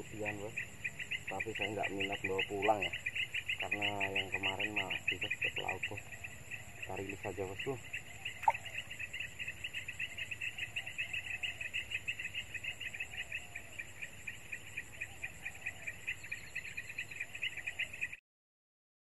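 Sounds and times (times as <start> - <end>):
crickets chirping: 0.0 - 18.2.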